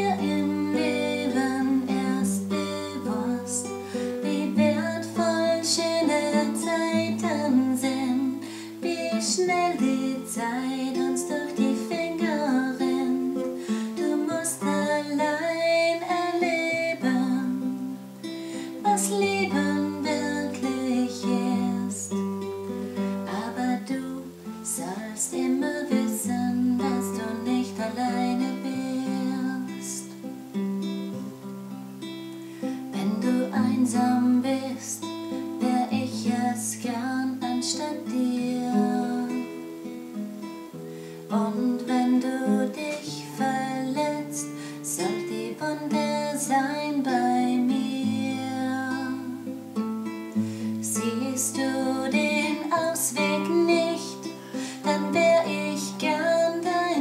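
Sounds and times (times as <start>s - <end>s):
classical guitar chords and bass line: 0.0s - 57.0s.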